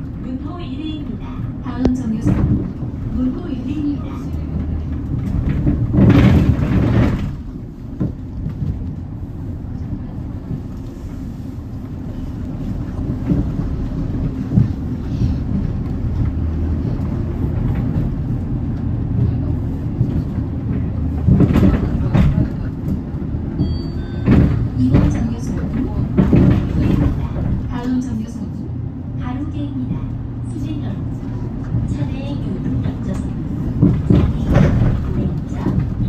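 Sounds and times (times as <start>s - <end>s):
bus engine running: 0.0s - 36.0s.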